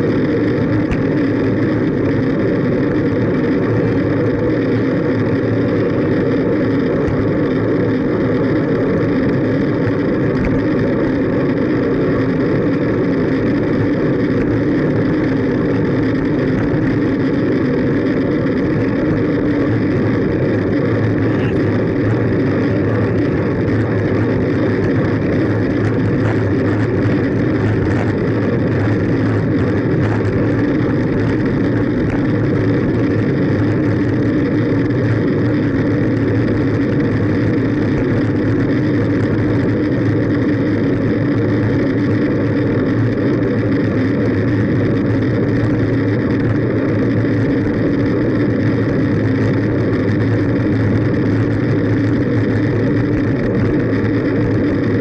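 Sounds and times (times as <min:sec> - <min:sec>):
bicycle road noise on asphalt: 0:00.0 - 0:55.0
wind rush on microphone: 0:00.0 - 0:55.0.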